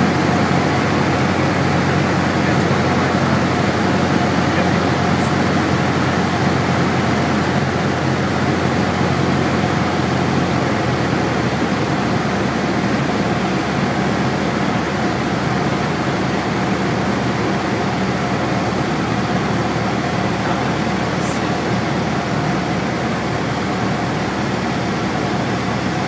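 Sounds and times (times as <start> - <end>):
plane engine and propeller drone: 0.0 - 26.0.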